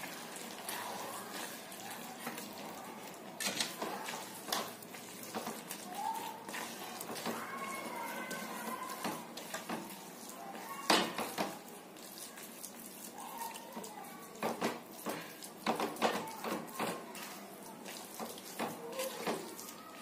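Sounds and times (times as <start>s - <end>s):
spatula scraping in a pan: 0.0s - 19.7s.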